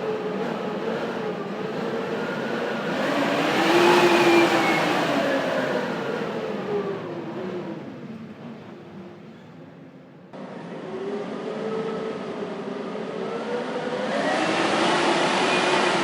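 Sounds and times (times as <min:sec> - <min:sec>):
blizzard wind whistling: 0:00.0 - 0:16.0.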